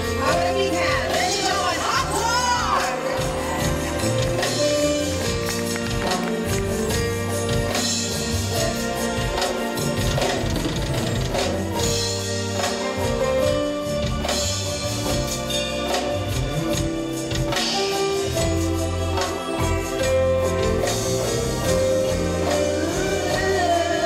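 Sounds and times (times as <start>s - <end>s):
bass notes: 0.0s - 24.0s
drum kit beat: 0.0s - 24.0s
guitar: 0.0s - 24.0s.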